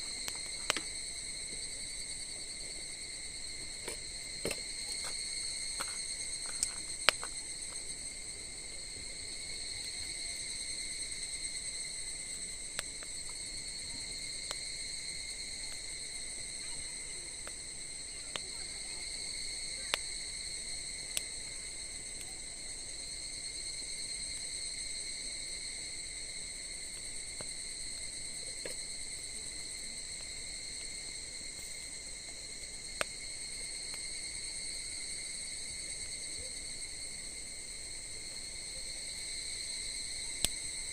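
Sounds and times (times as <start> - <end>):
campfire crackling and popping: 0.0 - 23.2, 26.0 - 40.9
crickets chirping: 0.0 - 40.9.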